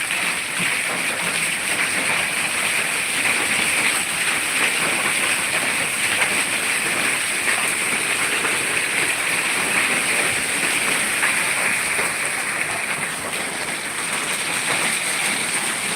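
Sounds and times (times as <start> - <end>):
hail pelting down: 0.0 - 15.9
heavy rain: 0.0 - 15.9.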